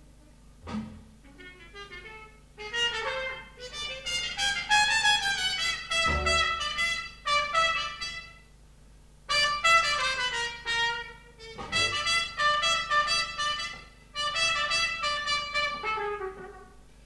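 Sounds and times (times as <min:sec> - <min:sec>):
muted trumpet jazz solo: 0:01.2 - 0:08.5, 0:09.3 - 0:16.9.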